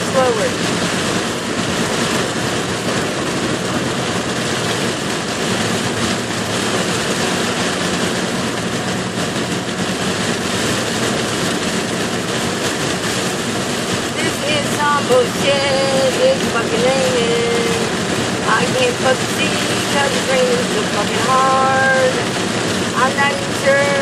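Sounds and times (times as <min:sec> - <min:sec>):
low engine hum: 0:00.0 - 0:24.0
rain pouring on car roof: 0:00.0 - 0:24.0
wet tyre and road noise: 0:00.0 - 0:24.0.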